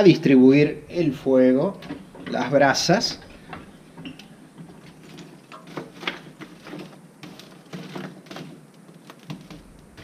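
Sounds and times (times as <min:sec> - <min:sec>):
metal tool raking charcoal: 0:00.4 - 0:10.0.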